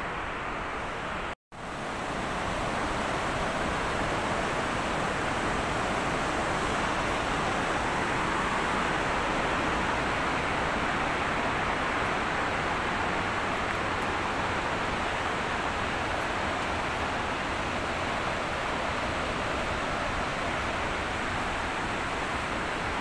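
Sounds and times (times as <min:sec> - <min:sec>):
river whitewater rushing over rocks: 0:00.0 - 0:23.0.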